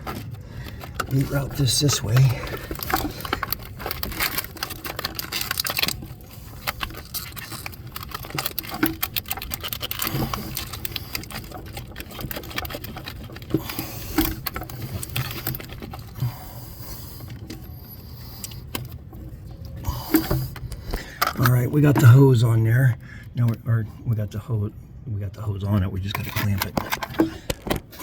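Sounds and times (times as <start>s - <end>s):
rubber hose rustling and scraping: 0.0s - 23.0s, 26.1s - 28.0s.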